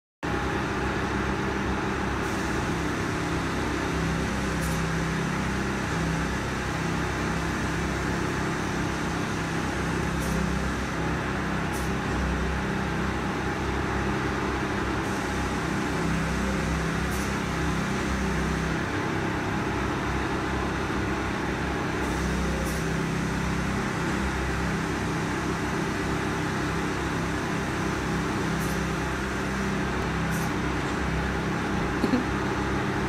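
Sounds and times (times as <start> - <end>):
machine hum and hiss: 0.3 - 33.0.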